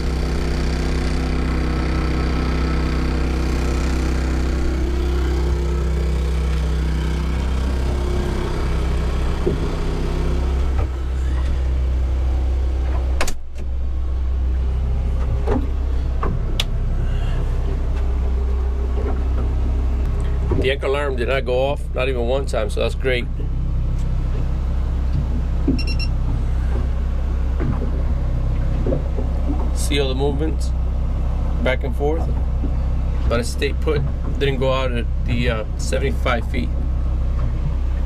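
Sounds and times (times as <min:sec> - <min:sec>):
engine rumbling: 0:00.0 - 0:38.0
hum: 0:00.0 - 0:38.0.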